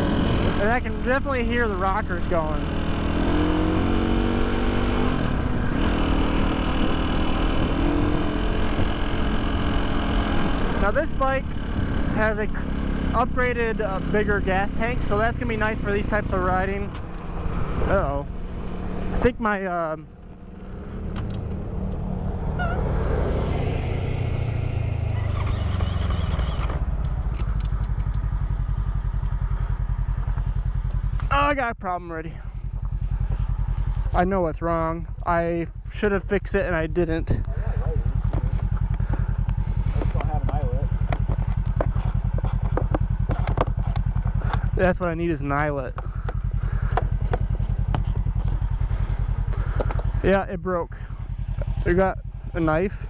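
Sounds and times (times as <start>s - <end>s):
engine idling: 0.0s - 22.7s, 25.0s - 53.0s.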